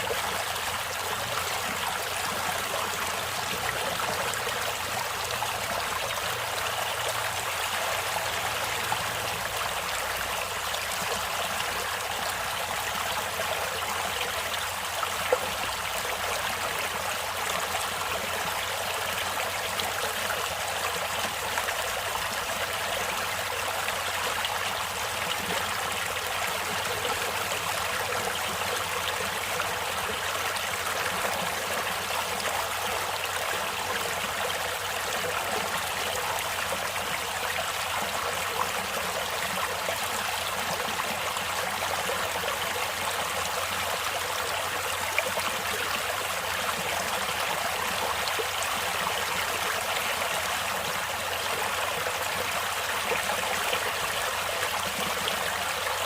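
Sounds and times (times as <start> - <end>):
stream water trickling: 0.0 - 56.0.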